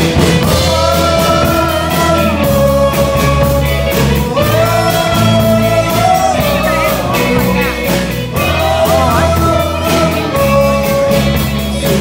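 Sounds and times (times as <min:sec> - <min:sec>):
high ticking beat: 0:00.0 - 0:12.0
live rock band playing: 0:00.0 - 0:12.0.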